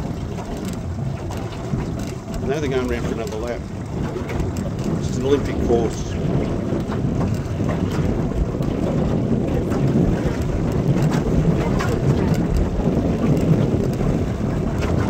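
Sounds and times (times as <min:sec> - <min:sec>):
choppy water: 0:00.0 - 0:15.0
small splashes and knocks: 0:00.0 - 0:15.0
wind buffeting microphone: 0:00.0 - 0:15.0.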